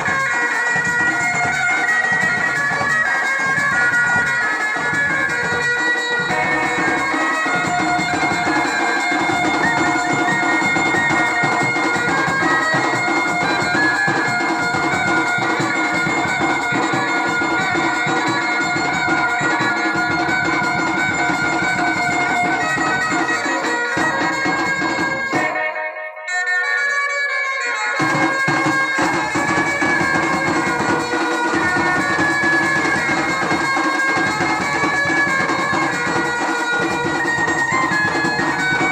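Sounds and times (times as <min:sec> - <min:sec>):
steady drumming: 0:00.0 - 0:25.7, 0:27.9 - 0:38.9
reedy double-reed wind melody: 0:00.0 - 0:38.9.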